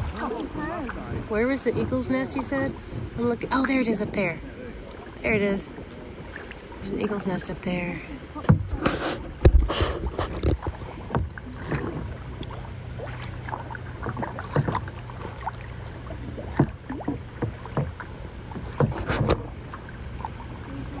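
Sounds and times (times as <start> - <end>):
paddles splashing in water: 0.0 - 21.0.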